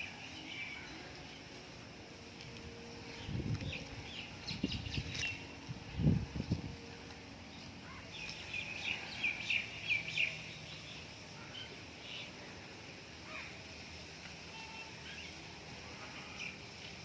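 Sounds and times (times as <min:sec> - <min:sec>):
birds chirping: 0:00.0 - 0:17.0
outdoor background noise: 0:00.0 - 0:17.0.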